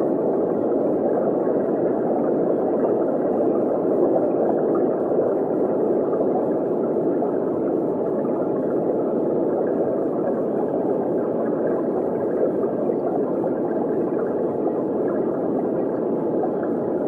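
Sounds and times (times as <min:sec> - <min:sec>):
muffled underwater water rush: 0:00.0 - 0:17.0.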